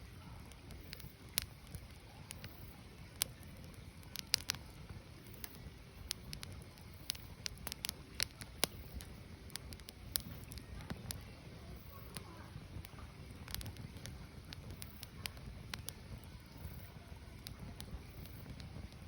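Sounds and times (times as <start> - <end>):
firewood crackling and popping: 0.0 - 19.0
low rumble of fire: 0.0 - 19.0.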